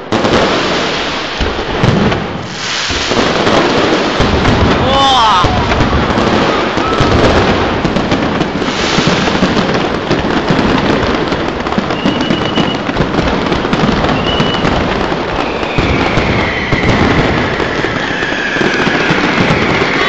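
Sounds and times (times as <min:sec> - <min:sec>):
fireworks bangs and crackling: 0:00.0 - 0:20.0
firework whistles: 0:00.2 - 0:10.2, 0:11.6 - 0:20.0.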